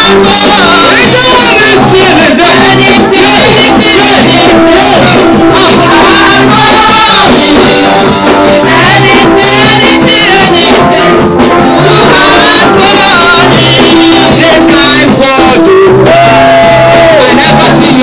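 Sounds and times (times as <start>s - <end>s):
hand percussion: 0.0s - 18.0s
held keyboard notes: 0.0s - 18.0s
voices singing: 0.0s - 18.0s.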